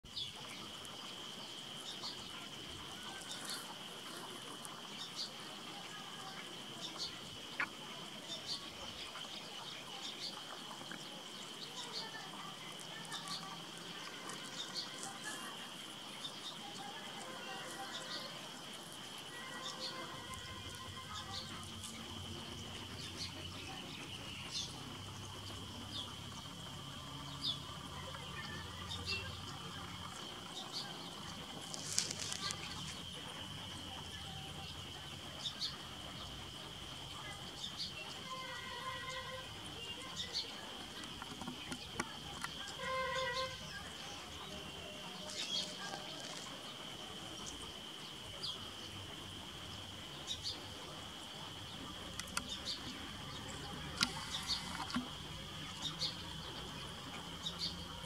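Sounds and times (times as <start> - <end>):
high-pitched insect drone: 0.4 - 57.9.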